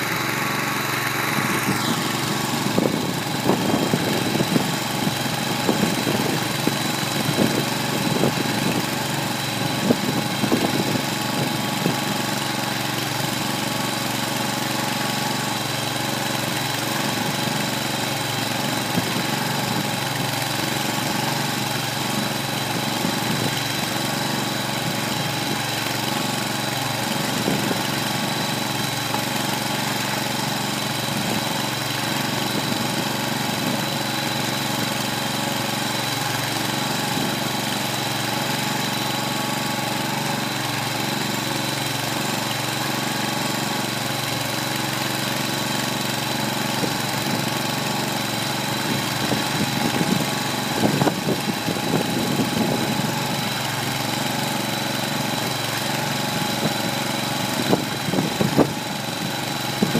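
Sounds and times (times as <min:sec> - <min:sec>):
gasoline engine running: 0:00.0 - 0:59.9.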